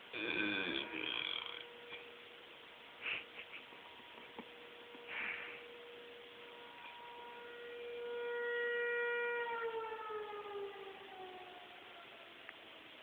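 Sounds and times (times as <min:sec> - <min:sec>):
warning siren: 0:00.0 - 0:03.0, 0:03.6 - 0:13.0.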